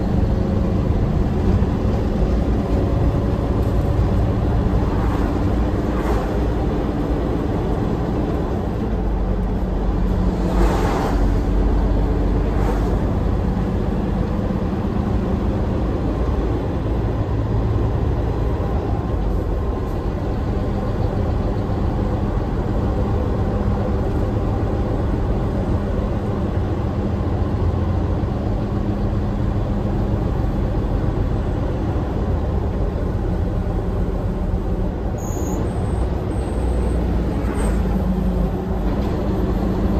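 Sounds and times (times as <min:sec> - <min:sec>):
diesel truck engine running: 0:00.0 - 0:39.9
road noise: 0:00.0 - 0:39.9.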